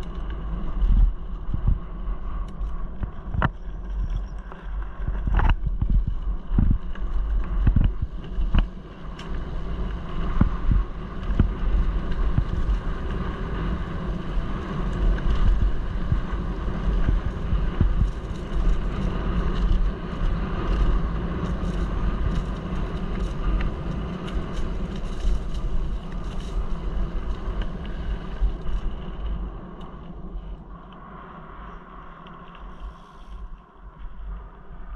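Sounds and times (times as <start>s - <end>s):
tyre noise on dirt: 0.0s - 29.8s
wind buffeting microphone: 0.0s - 34.9s.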